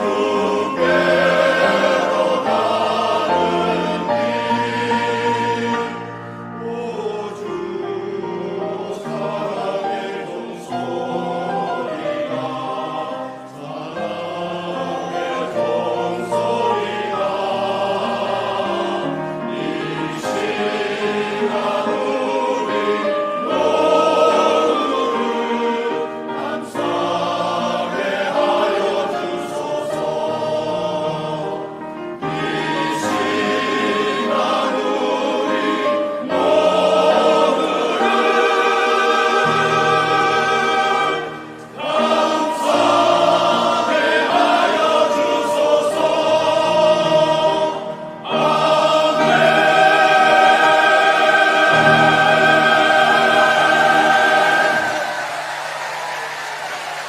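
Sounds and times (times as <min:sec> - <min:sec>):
choir singing a hymn: 0:00.0 - 0:57.0
piano accompaniment: 0:00.0 - 0:57.0.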